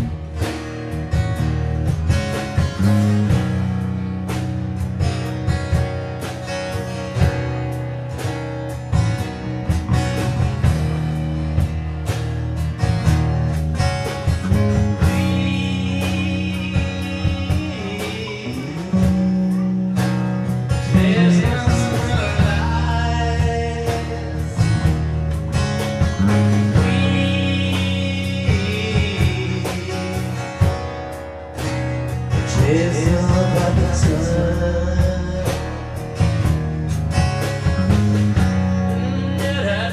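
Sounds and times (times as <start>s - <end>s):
electric guitar: 0.0s - 39.9s
live rock band: 0.0s - 39.9s
strummed acoustic guitars: 0.0s - 39.9s.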